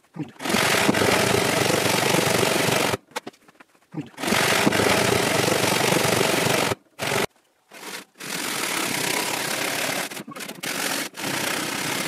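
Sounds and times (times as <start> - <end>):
pull saw rasping through wood: 0.4 - 3.0, 4.2 - 12.0.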